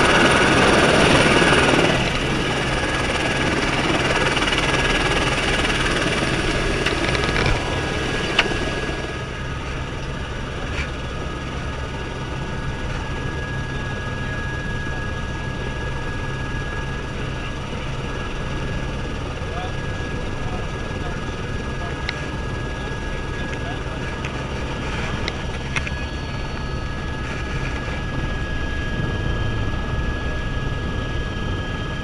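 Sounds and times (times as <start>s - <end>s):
helicopter engine and rotor running: 0.0s - 32.0s.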